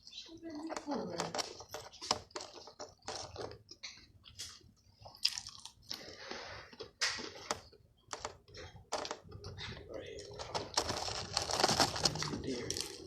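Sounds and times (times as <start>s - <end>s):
person chewing food: 1.3s - 13.0s.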